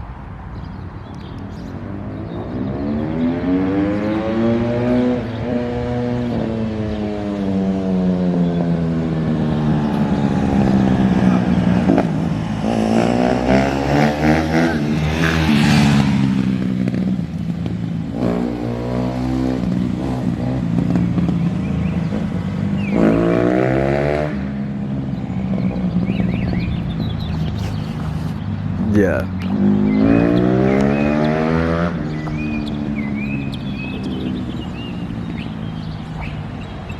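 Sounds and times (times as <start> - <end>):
dirt bike engine revving: 2.6 - 24.6, 25.6 - 36.9.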